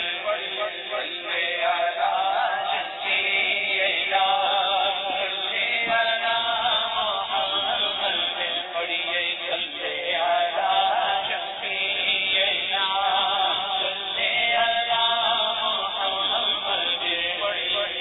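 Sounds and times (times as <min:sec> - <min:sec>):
voices chanting: 0:00.0 - 0:18.0.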